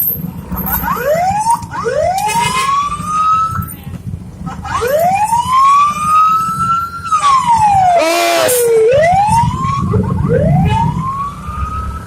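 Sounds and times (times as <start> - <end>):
engine and road rumble: 0.0 - 12.0
siren wailing: 0.9 - 3.6, 4.7 - 12.0.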